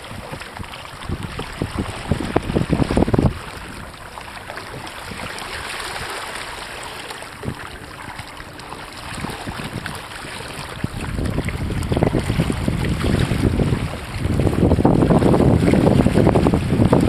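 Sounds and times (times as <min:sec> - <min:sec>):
water splashing along a hull: 0:00.0 - 0:17.0
wind buffeting microphone: 0:00.0 - 0:17.0.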